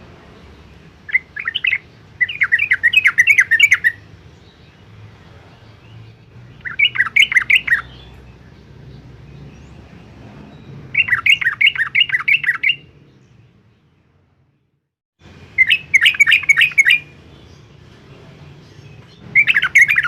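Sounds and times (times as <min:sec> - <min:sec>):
bulbul singing: 0:00.0 - 0:14.1, 0:15.3 - 0:20.0.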